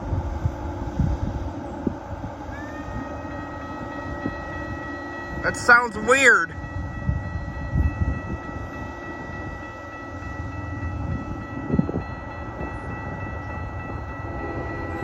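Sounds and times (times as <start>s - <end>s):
freight train wheels rumbling: 0.0s - 15.0s
high ringing tone: 2.6s - 15.0s.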